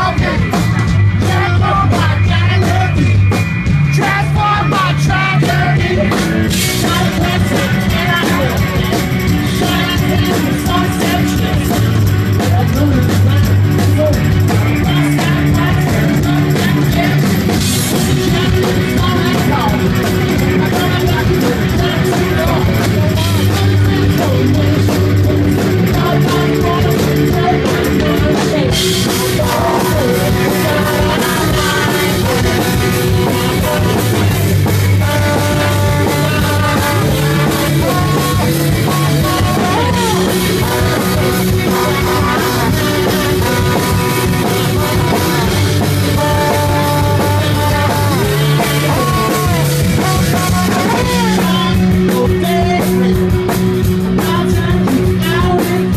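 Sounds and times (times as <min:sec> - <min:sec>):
lead singer's voice: 0:00.0 - 0:55.9
loud live rock band: 0:00.0 - 0:55.9.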